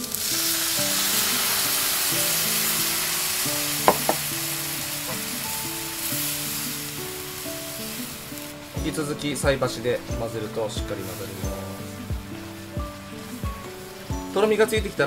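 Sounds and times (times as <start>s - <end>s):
milk sizzling in hot pan: 0.0s - 15.0s.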